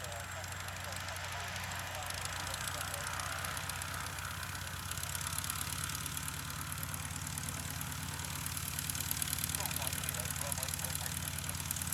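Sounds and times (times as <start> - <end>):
propeller plane engine idling: 0.0 - 11.9.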